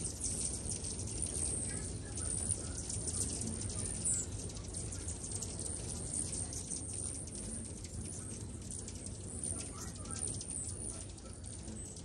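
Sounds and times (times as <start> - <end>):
hummingbirds chipping and twittering: 0.0 - 12.0
low steady hum: 0.0 - 12.0
steady hiss with fine ticks: 0.0 - 12.0.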